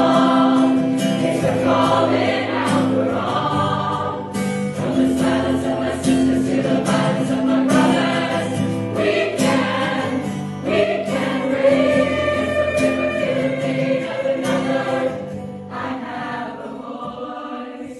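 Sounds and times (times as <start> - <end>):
choir singing: 0.0 - 17.9.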